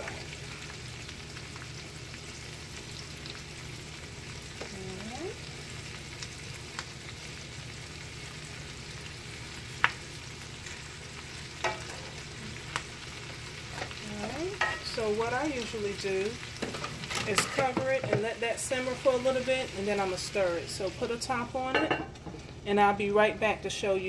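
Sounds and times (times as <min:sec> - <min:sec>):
cabbage sizzling in skillet: 0:00.0 - 0:24.0.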